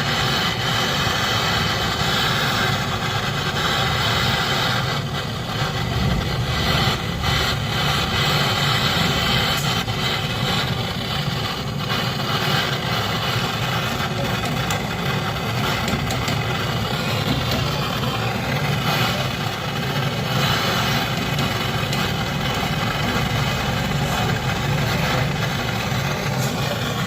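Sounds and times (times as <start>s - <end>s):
machine motor drone: 0.0s - 27.0s.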